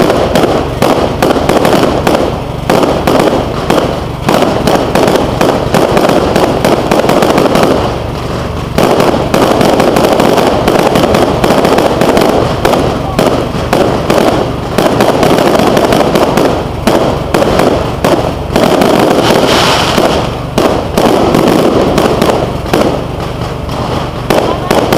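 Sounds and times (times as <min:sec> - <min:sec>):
fireworks bangs and crackling: 0:00.0 - 0:24.9.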